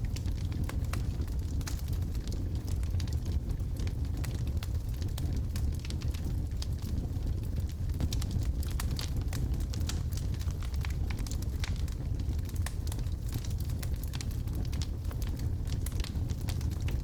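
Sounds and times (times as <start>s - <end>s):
wood fire burning: 0.0s - 17.0s.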